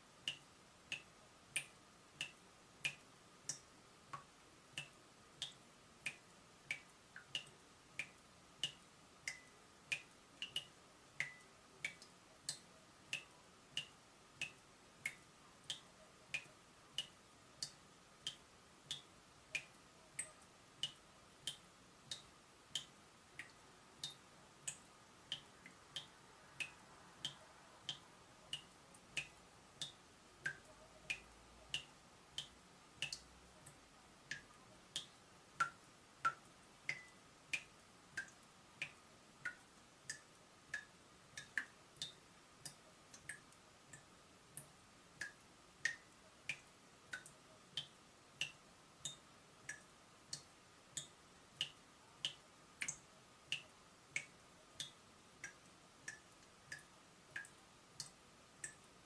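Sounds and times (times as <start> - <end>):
water dripping from tap: 0.3 - 58.9.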